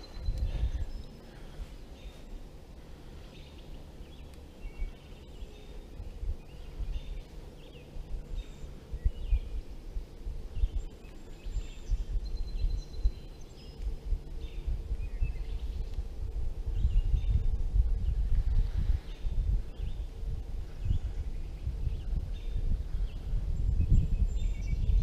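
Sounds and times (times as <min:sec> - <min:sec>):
small birds chirping: 0:00.0 - 0:25.0
wind buffeting microphone: 0:00.0 - 0:25.0.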